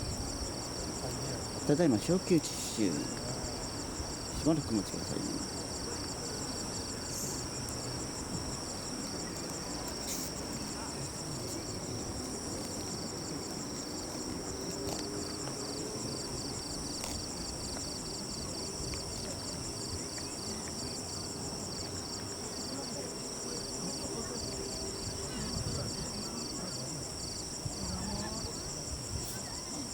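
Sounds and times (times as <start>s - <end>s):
insects chirping: 0.0s - 29.9s.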